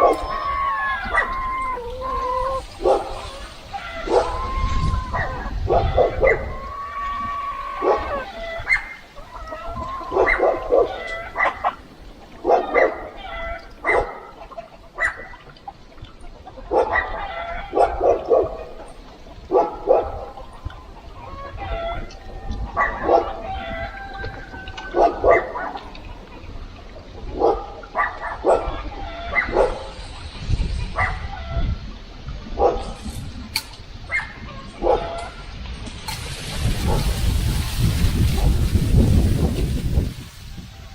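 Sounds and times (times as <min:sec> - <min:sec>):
animals calling: 0:00.0 - 0:33.3, 0:33.9 - 0:39.6.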